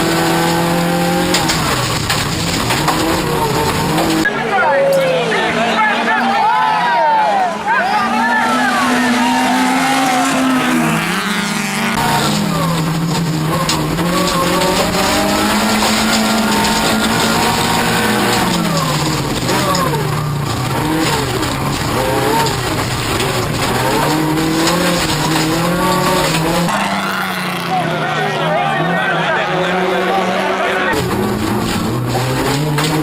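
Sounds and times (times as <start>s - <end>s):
race car engine revving: 0.0s - 4.4s, 7.4s - 33.0s
tyre and road noise: 0.0s - 33.0s.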